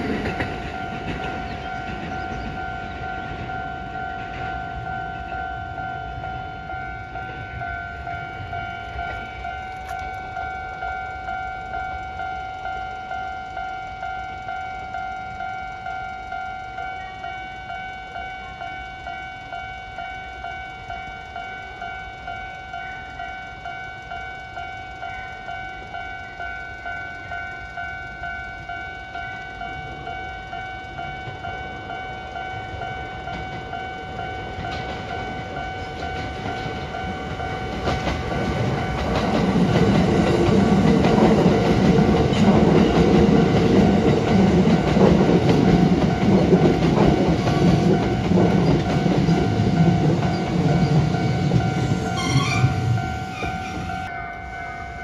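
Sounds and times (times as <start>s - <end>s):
level crossing bell ringing: 0.0s - 55.0s
train wheels rumbling on rails: 0.0s - 55.0s.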